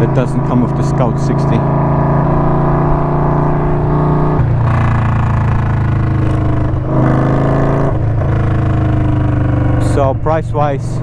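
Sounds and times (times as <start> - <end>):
motorcycle engine running loud: 0.0 - 11.0.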